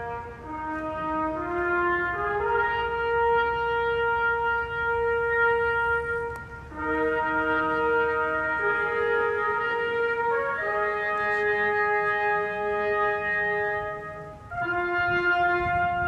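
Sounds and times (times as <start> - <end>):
brass playing long held chords: 0.0 - 16.0.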